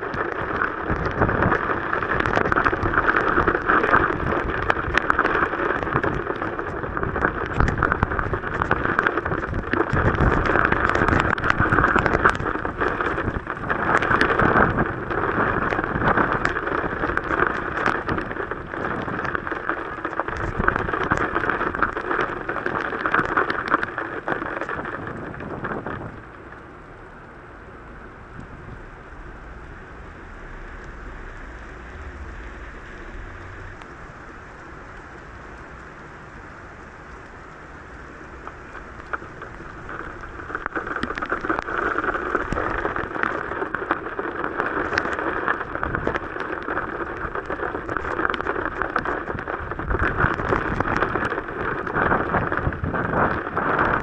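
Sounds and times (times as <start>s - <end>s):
heavy rain pelting: 0.0s - 54.0s.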